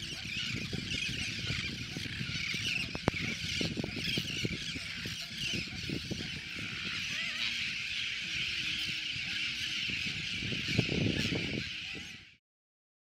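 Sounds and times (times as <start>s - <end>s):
low gusty rumbling: 0.0s - 12.4s
terns calling: 0.0s - 12.4s.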